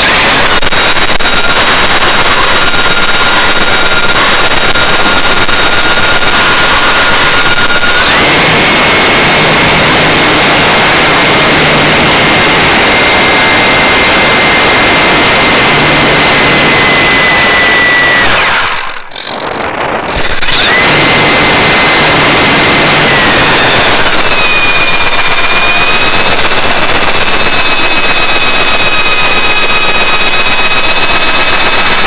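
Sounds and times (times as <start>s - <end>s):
toy truck motor whine: 0.0s - 32.0s
wind rush: 0.0s - 32.0s.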